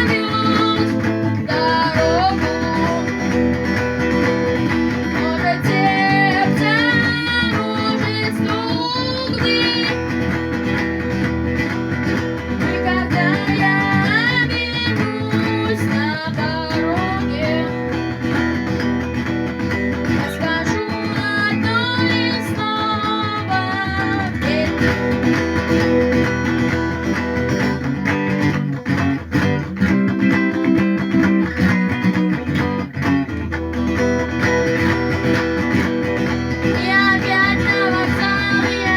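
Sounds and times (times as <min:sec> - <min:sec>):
acoustic guitar strumming: 0:00.0 - 0:38.9
guitar melody line: 0:00.0 - 0:38.9.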